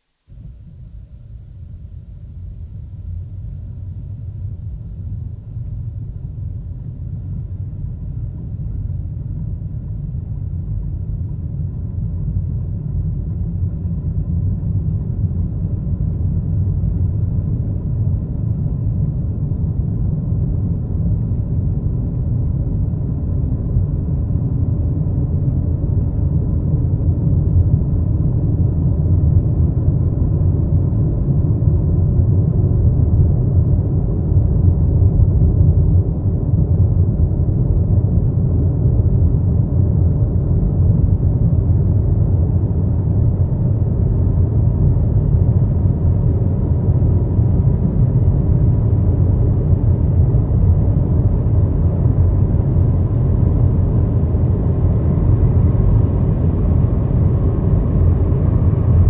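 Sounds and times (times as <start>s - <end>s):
deep steady rumble: 0.3s - 59.0s.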